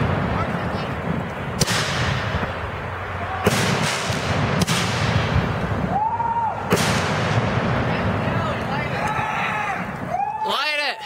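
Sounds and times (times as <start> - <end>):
fireworks booming: 0.0 - 10.1
fireworks crackle: 0.0 - 10.3
continuous low rumble: 0.0 - 11.0.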